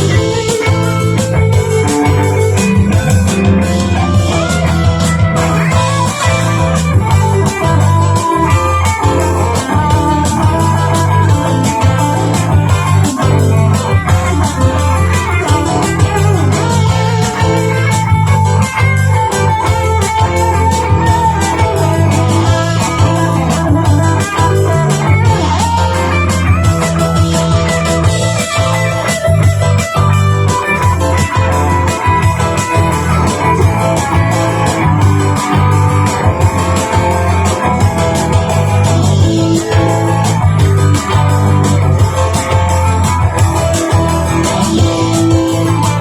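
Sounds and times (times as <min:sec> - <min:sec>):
backing track drums: 0:00.0 - 0:46.0
electric guitar through amp: 0:00.0 - 0:46.0.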